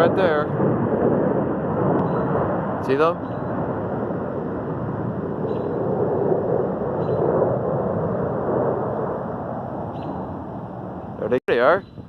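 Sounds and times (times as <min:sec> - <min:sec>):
jet aircraft flying past: 0:00.0 - 0:11.6.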